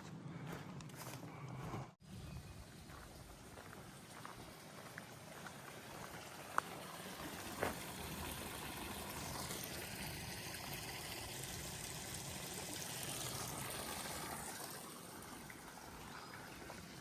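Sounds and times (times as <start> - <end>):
stream running and trickling: 2.4 - 17.0.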